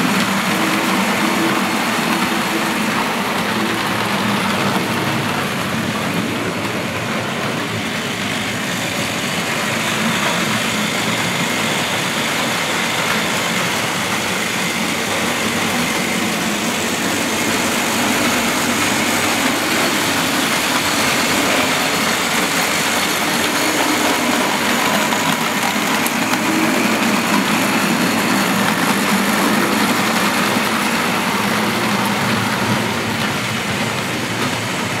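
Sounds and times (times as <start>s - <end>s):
model train motors whirring: 0.0s - 35.0s
wheels rumbling on track: 0.0s - 35.0s.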